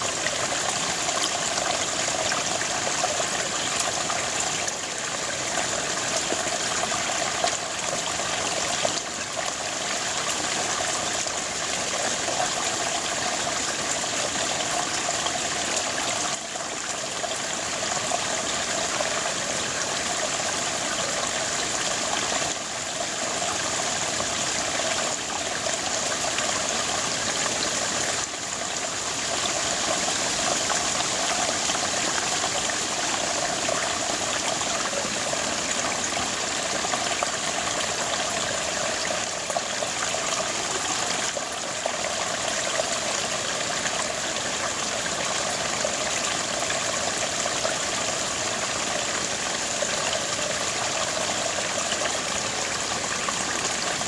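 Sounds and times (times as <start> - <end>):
brook babbling over stones: 0.0 - 54.0.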